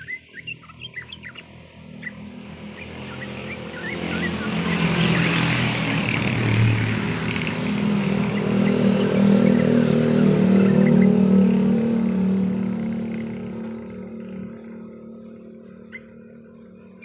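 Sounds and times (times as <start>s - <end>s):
vehicle driving past: 1.3s - 17.0s.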